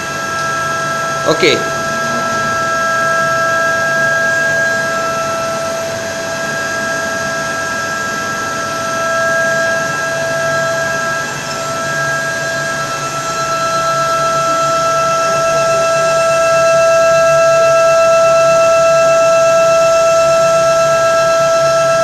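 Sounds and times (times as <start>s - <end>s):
machine spindle whining: 0.0s - 22.0s.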